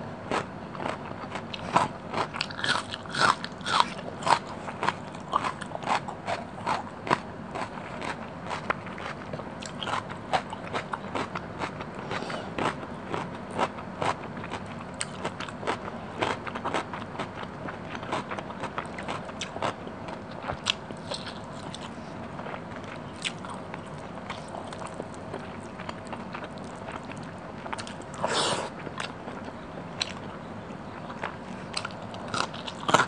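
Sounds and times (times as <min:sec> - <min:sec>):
wet chewing: 0:00.3 - 0:30.3.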